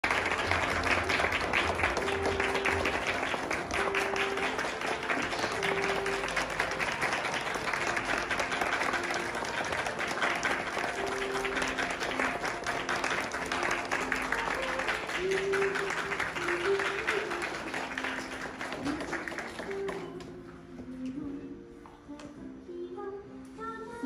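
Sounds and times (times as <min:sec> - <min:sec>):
audience applauding: 0:00.0 - 0:20.1
slow melody music: 0:00.0 - 0:24.0.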